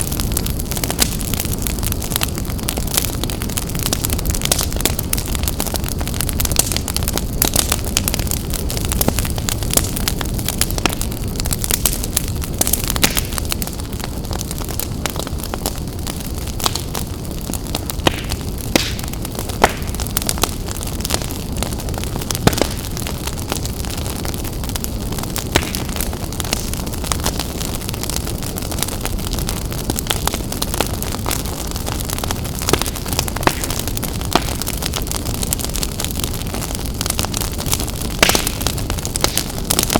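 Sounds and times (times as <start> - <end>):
fire flames rumbling: 0.0 - 39.9
wood crackling and popping: 0.0 - 39.9.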